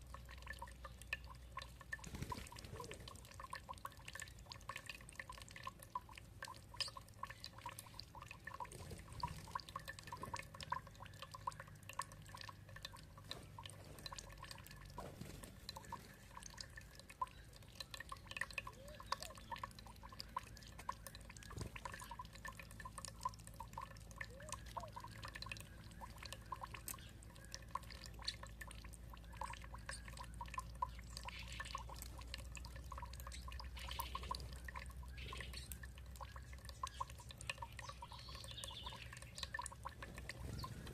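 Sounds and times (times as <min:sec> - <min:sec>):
water dripping and trickling: 0:00.0 - 0:40.9.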